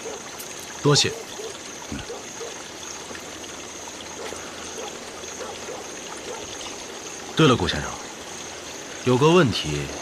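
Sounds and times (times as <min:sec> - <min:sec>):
low trickling noise: 0:00.0 - 0:10.0.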